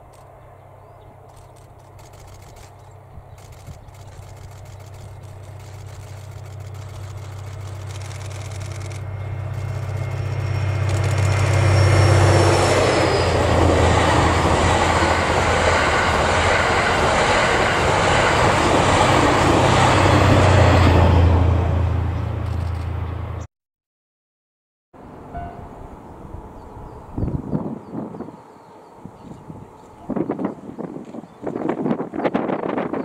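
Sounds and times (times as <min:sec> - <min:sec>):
train diesel engine drone: 0:00.0 - 0:23.5, 0:25.0 - 0:32.9
wheels rumbling on rail: 0:00.0 - 0:23.5, 0:25.0 - 0:33.0.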